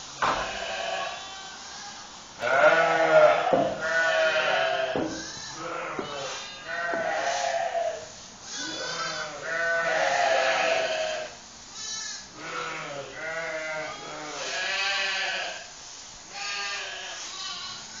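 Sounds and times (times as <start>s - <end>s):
sheep and lambs bleating: 0.2s - 15.7s, 16.3s - 18.0s.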